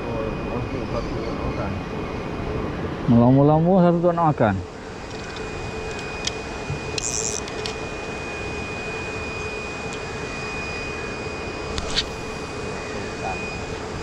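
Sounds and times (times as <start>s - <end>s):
constant tone: 0.0s - 14.0s
mechanical hum: 0.0s - 14.0s.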